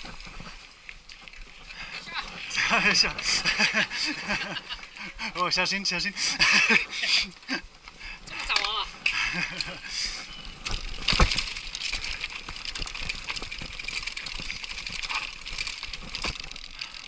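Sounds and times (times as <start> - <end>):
bike rattling and knocking: 0.0 - 17.0
bike tyres on dirt: 0.0 - 17.0.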